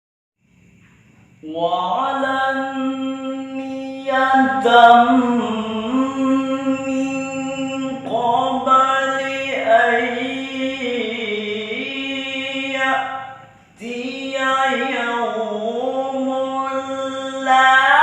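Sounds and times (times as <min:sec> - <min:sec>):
man chanting: 0:01.4 - 0:18.0.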